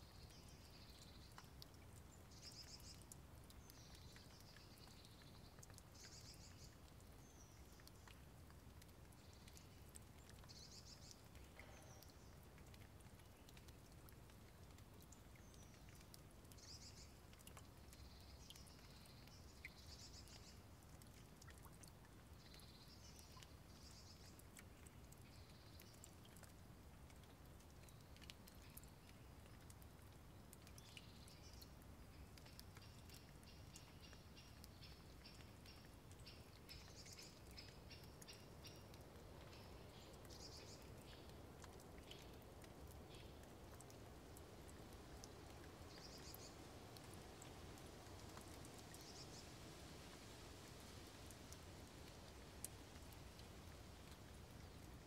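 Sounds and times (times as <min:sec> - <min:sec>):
light ticks: 0:00.0 - 0:55.0.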